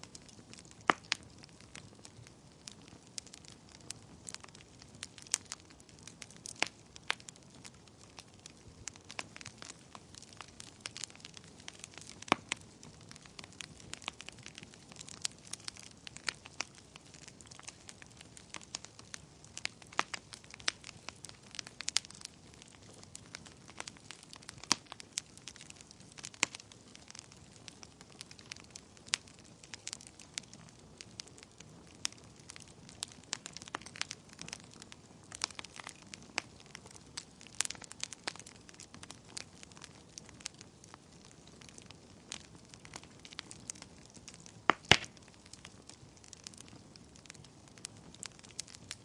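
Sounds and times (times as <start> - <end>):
fireplace fire crackling: 0.0 - 49.0.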